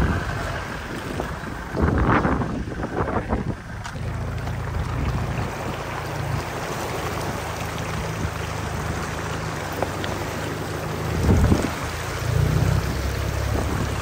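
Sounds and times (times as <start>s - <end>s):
car engine running: 0.0s - 14.0s
water splashing off tyre: 0.0s - 14.0s.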